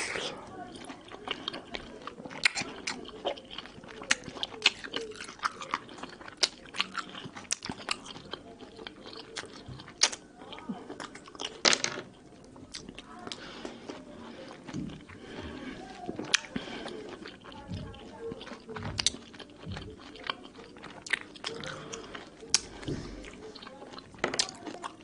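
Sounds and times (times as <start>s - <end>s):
fruit being chewed juicily: 0.0s - 25.0s.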